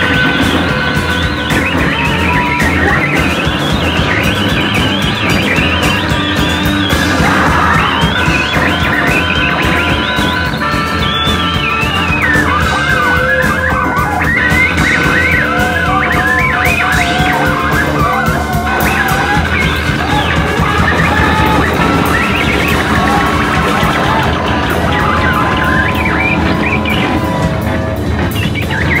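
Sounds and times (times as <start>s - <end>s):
live rock band: 0.0s - 29.0s
sliding lead guitar line: 0.0s - 29.0s.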